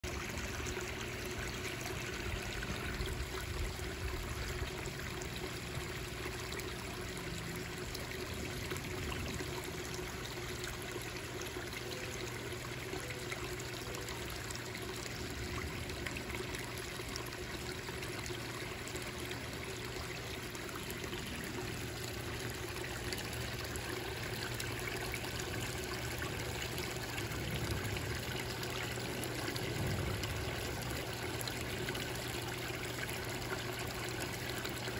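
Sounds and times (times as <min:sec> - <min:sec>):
waterfall trickling and splashing: 0:00.0 - 0:34.9.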